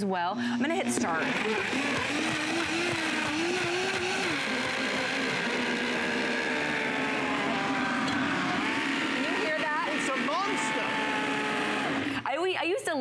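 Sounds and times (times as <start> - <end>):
blender motor growling: 0.4 - 12.2.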